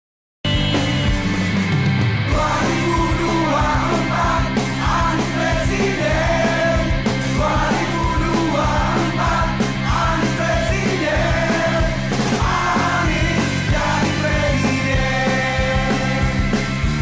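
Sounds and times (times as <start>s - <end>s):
rock music: 0.4s - 17.0s
person shouting singing: 2.3s - 16.4s.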